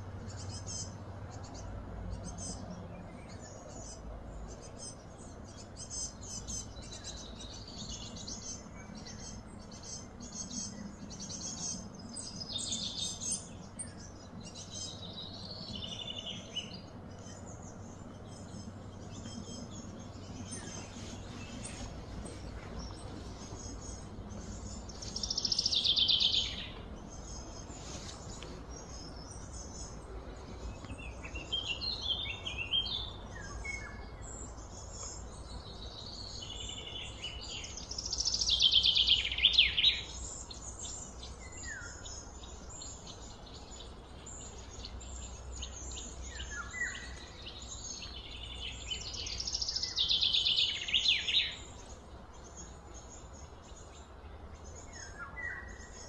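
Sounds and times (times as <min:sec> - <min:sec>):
steady low hum: 0:00.0 - 0:50.0
birds chirping and singing: 0:00.0 - 0:56.0.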